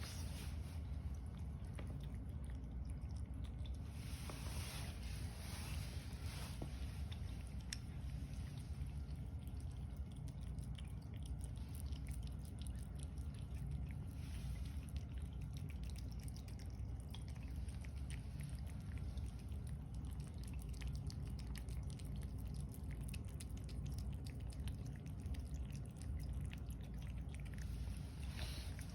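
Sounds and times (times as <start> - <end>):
cat eating from bowl: 0.0 - 28.9
steady low rumble: 0.0 - 28.9.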